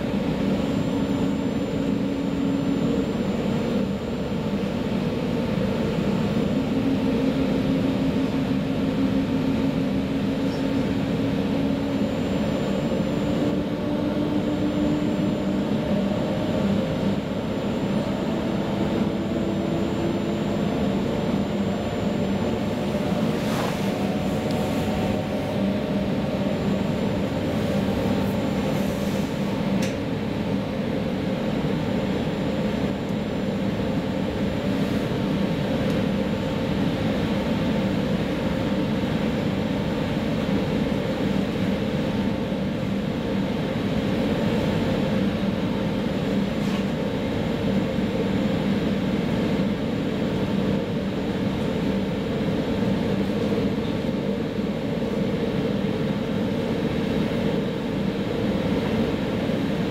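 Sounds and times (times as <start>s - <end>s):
steady humming tones: 0.0s - 59.9s.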